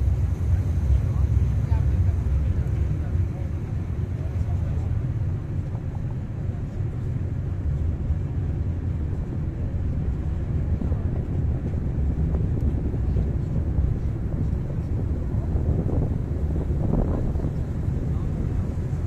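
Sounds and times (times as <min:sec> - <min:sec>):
small boat rumbling: 0:00.0 - 0:19.0
wind buffeting microphone: 0:00.0 - 0:19.0.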